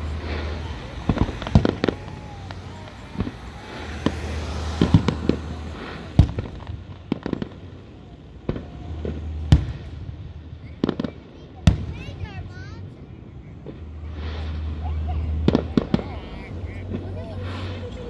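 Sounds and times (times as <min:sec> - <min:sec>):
fireworks booming and cracking: 0:00.0 - 0:18.0.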